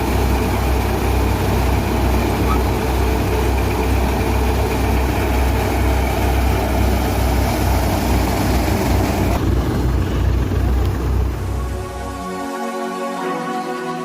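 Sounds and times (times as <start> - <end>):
farm machinery engine running: 0.0 - 12.4.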